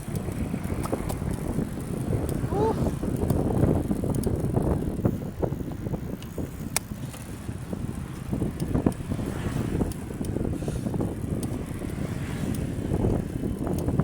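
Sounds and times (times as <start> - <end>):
bicycle clicks and rattles: 0.0 - 14.0
bicycle tyre and wind noise: 0.0 - 14.0.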